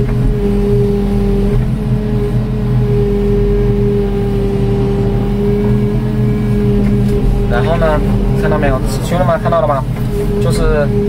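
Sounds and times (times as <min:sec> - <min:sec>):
excavator engine droning: 0:00.0 - 0:11.0.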